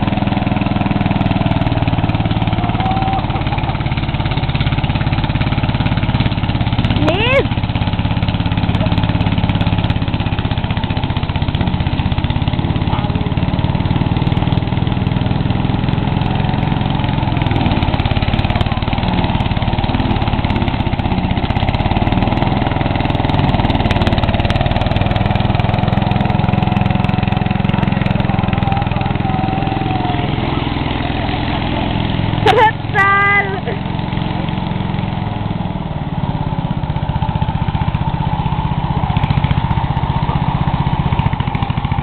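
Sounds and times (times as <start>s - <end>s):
open-piped mower engine running: 0.0s - 42.0s.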